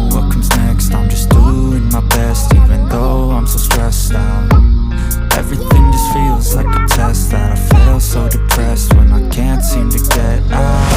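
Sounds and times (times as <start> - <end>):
rapping over a bass beat: 0.0 - 10.9.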